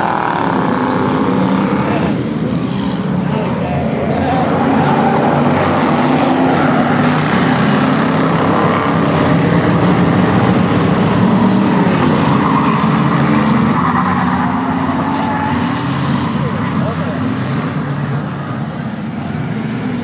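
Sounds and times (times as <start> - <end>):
many engines roaring: 0.0 - 20.0.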